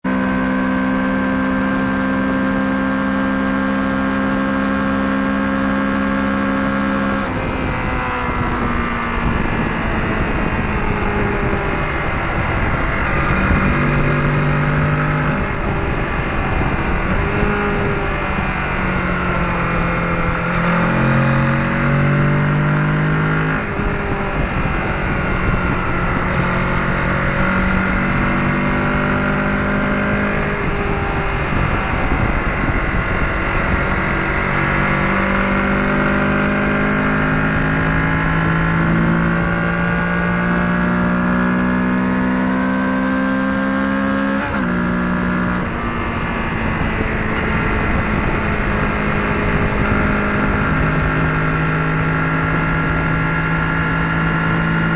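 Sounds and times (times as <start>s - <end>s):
motorcycle engine accelerating: 0.0s - 54.9s
road noise: 0.0s - 54.9s.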